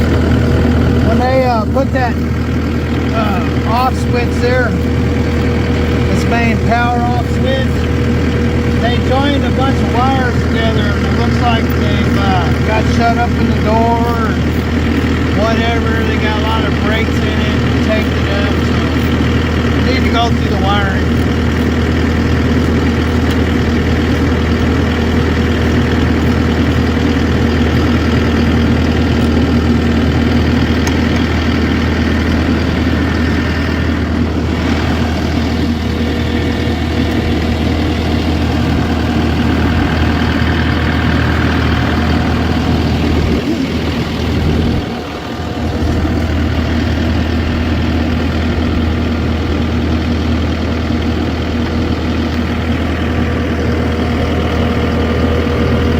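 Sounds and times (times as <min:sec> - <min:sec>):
large engine idling: 0:00.0 - 0:55.9.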